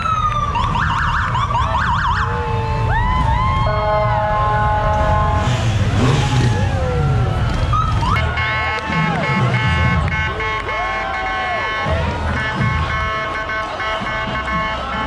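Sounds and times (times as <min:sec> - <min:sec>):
motorcycle engines rumbling: 0:00.0 - 0:15.0
police sirens yelping and chirping: 0:00.0 - 0:15.0.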